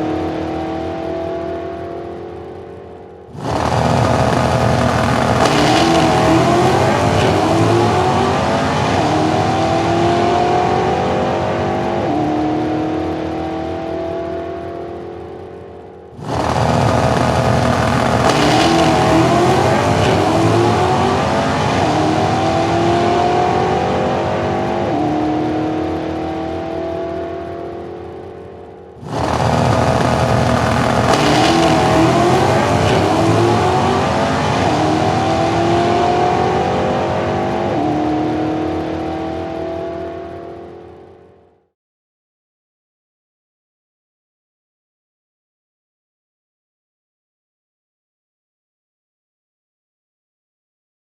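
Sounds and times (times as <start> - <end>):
racing car engine: 0.0 - 41.7.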